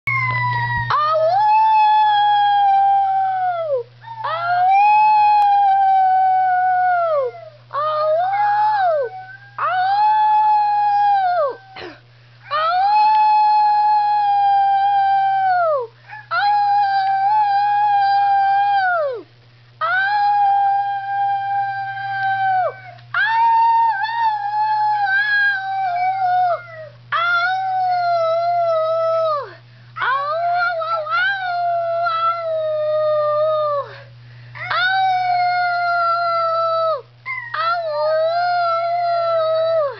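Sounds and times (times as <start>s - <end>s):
dog howling: 0.1s - 19.2s, 19.8s - 34.0s, 34.6s - 39.9s.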